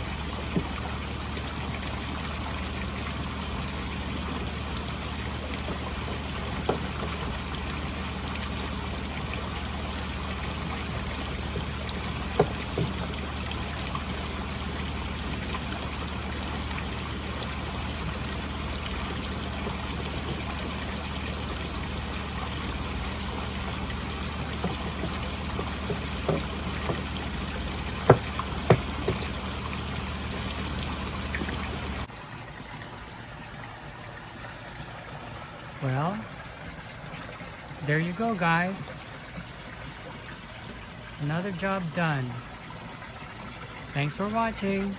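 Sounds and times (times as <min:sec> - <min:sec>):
low steady hum: 0:00.0 - 0:44.9
pond water trickling and splashing: 0:00.0 - 0:44.9.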